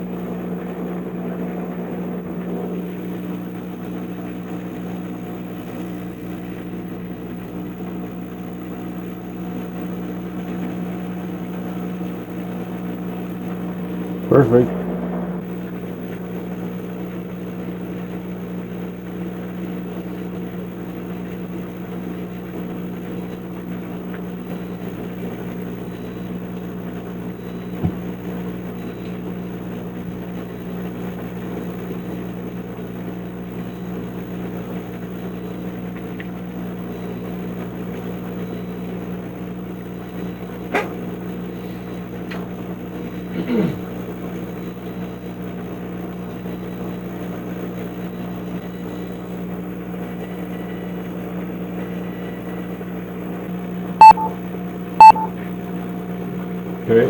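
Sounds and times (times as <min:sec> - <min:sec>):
exhaust fan motor hum: 0:00.0 - 0:53.8.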